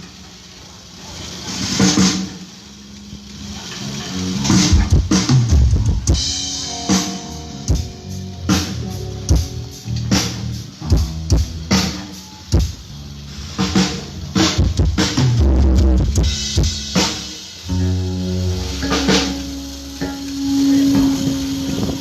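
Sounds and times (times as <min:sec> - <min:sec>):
held pitched notes: 0:01.5 - 0:22.0.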